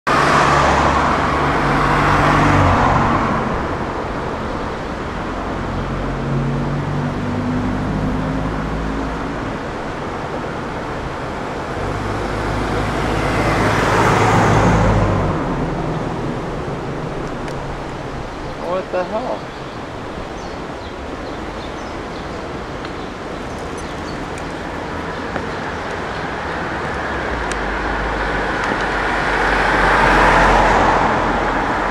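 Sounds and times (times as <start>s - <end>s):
car driving past: 0.1s - 18.6s, 23.1s - 31.9s
off-road vehicle passing close: 0.1s - 31.9s.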